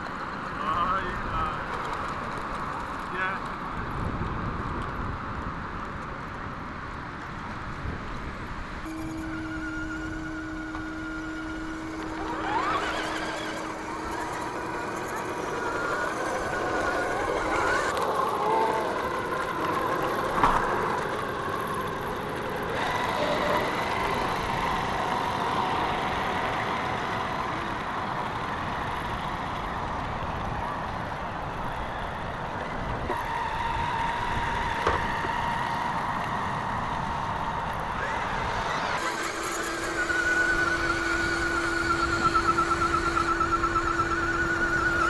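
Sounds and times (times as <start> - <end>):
rough noisy background: 0.0 - 45.0
electric motor whining: 8.8 - 45.0.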